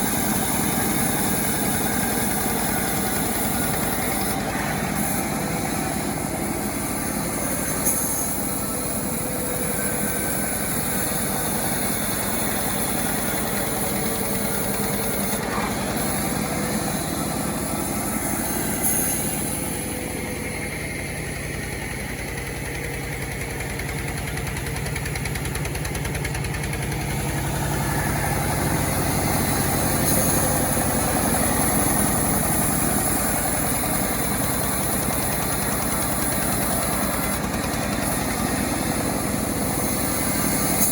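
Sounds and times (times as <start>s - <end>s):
chainsaw engine running: 0.0s - 40.9s.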